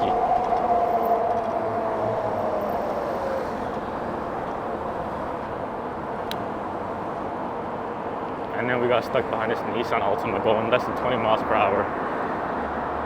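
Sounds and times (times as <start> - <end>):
wind and tyres rushing: 0.0 - 13.0.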